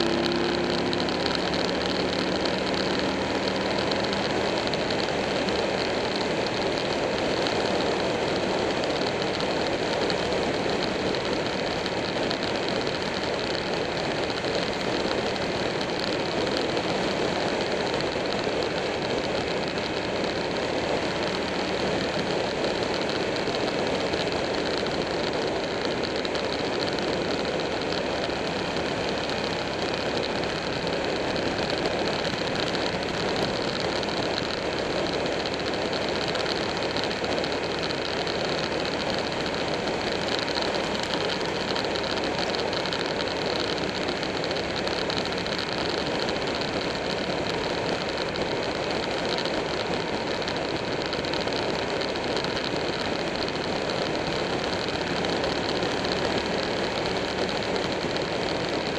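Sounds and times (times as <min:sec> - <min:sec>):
motorcycle engine cruising: 0:00.0 - 0:58.9
wind and road noise: 0:00.0 - 0:58.9.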